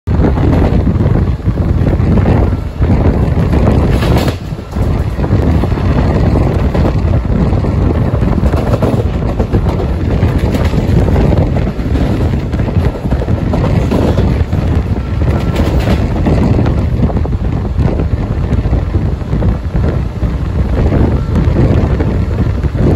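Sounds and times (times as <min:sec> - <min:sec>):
train coaches rumbling and rattling: 0:00.1 - 0:22.9
wind buffeting microphone: 0:00.1 - 0:22.9.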